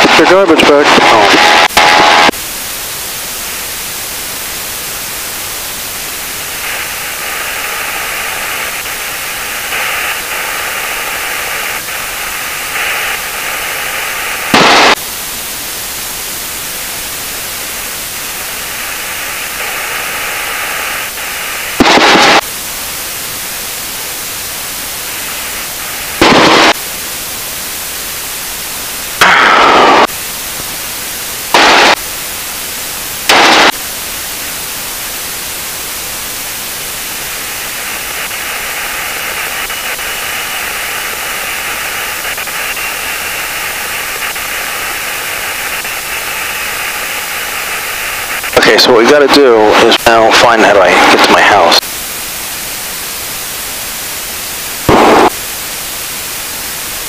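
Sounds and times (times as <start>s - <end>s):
intercom static hiss: 0.0s - 57.0s
loud static bursts: 0.0s - 57.0s.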